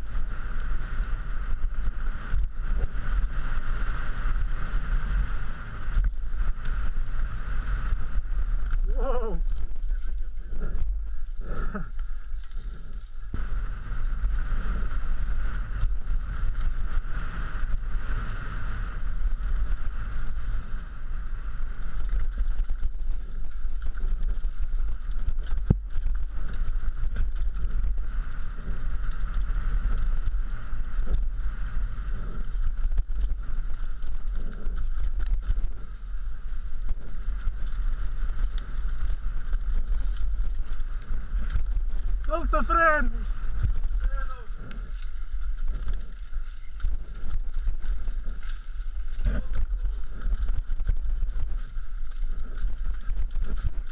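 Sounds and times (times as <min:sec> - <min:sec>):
mountain bike rumble and rattle: 0:00.0 - 0:53.9
wind buffeting microphone: 0:00.0 - 0:53.9.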